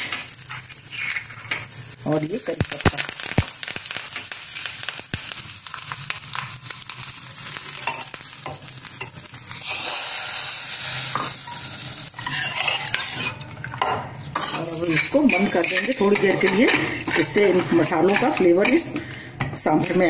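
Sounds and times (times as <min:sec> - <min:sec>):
spices sizzling in hot oil: 0:00.0 - 0:20.0.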